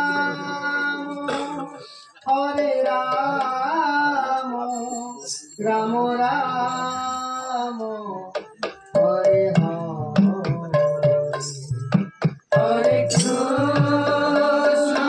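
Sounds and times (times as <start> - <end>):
people singing: 0.0 - 15.0.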